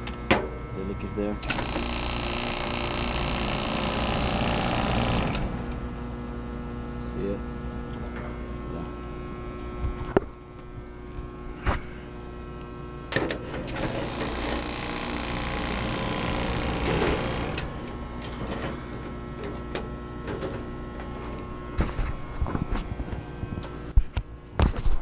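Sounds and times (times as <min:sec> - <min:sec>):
condensing unit humming: 0:00.0 - 0:25.0.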